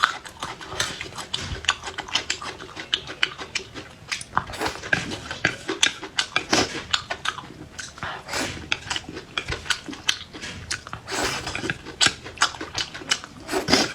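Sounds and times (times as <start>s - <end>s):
chewing and crunching: 0.0s - 13.9s.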